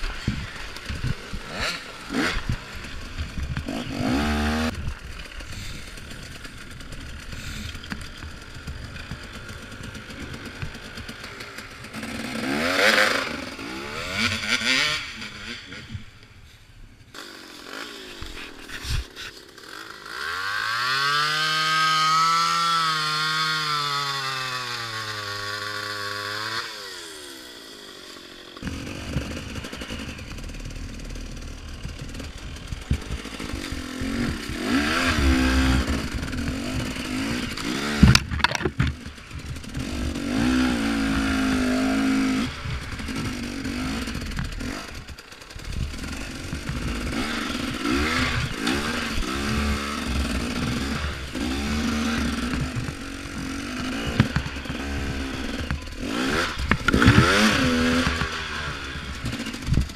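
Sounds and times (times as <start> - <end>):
chainsaw revving: 0.0 - 16.2, 17.1 - 59.9
dirt bike engine revving: 0.0 - 16.2, 17.1 - 59.9.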